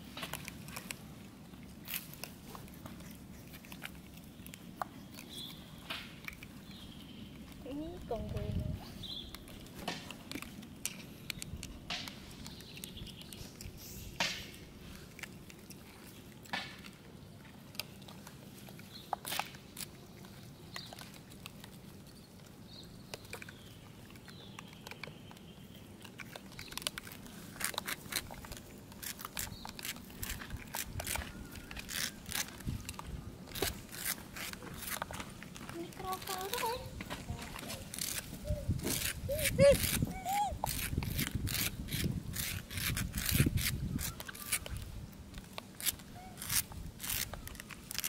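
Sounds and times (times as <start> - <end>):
monkeys picking and chewing grain: 0.0 - 48.0.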